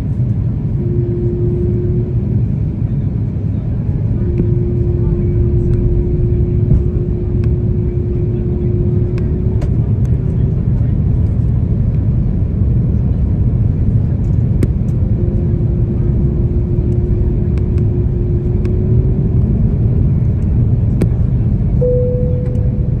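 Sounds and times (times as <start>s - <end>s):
airliner cabin rumble: 0.0s - 23.0s
faint steady hum: 0.0s - 23.0s.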